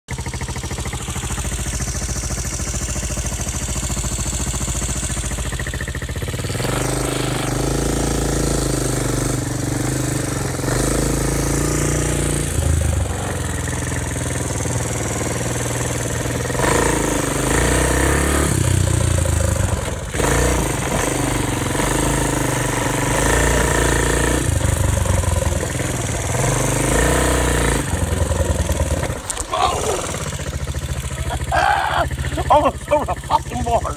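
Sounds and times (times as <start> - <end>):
quad engine revving: 0.1 - 33.9.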